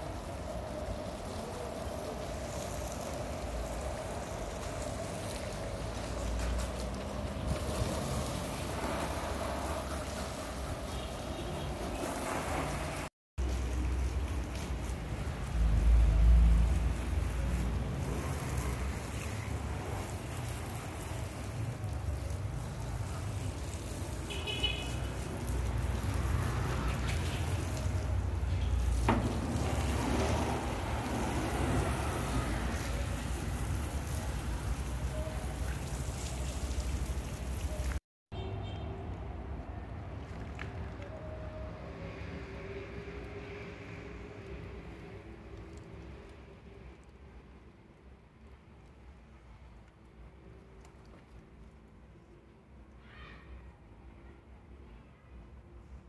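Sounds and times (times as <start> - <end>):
water spraying on a car: 0.0 - 38.0, 38.6 - 52.9.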